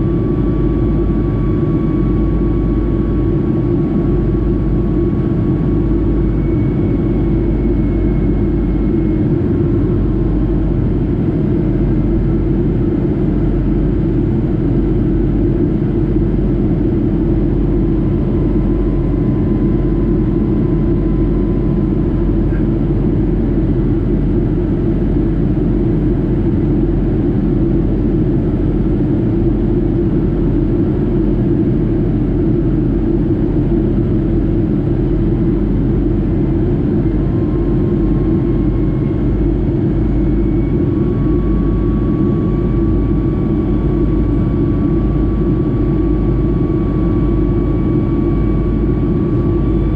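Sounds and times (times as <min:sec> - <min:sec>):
faint engine whine: 0:00.0 - 0:49.9
jet engine drone in cabin: 0:00.0 - 0:49.9.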